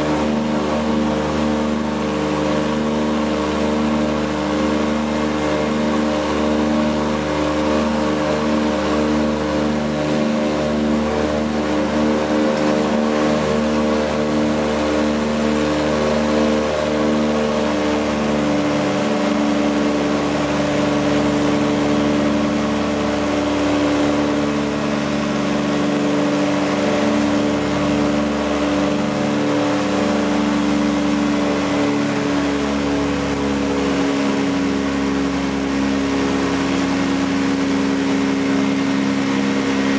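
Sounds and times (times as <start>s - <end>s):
propeller plane engines droning: 0.0s - 39.9s.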